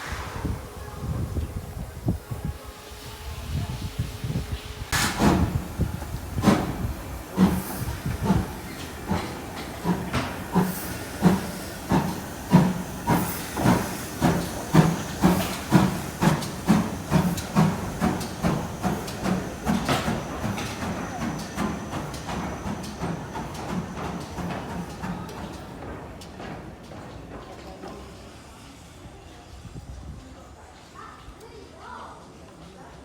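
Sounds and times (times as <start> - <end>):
steam locomotive chuffing: 0.0 - 30.2.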